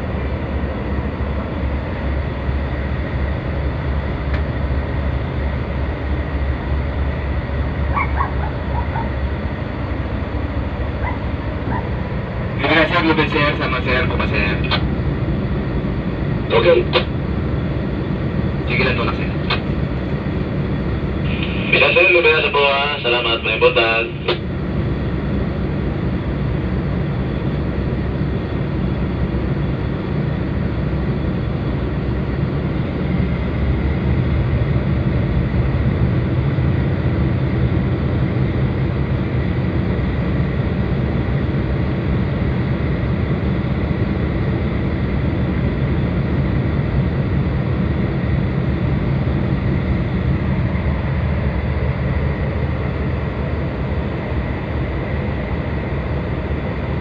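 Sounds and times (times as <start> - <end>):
diesel engines running steadily: 0.0 - 57.0.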